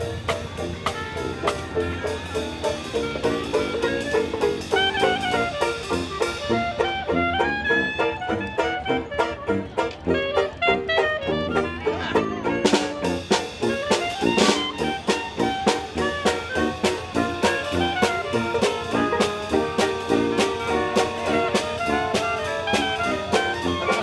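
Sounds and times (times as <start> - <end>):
upbeat jazz with drums and brass: 0.0 - 24.0.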